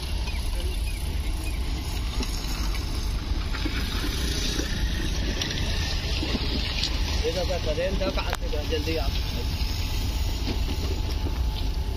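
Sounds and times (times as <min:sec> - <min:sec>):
electric locomotive rumbling: 0:00.0 - 0:11.9.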